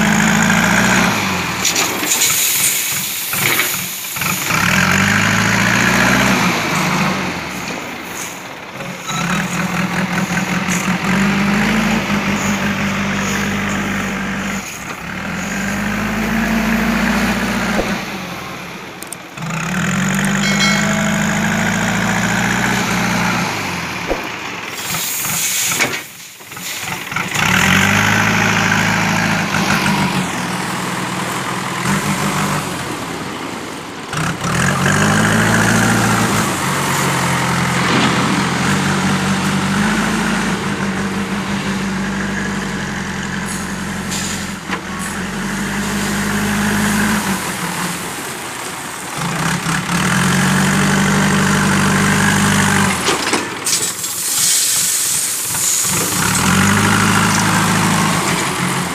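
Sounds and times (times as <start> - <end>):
diesel engine revving: 0.0 - 58.9.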